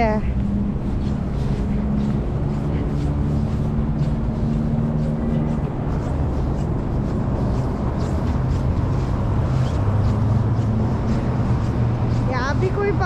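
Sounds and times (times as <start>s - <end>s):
street traffic rumble: 0.0s - 13.0s
vehicle engine humming: 0.0s - 13.0s.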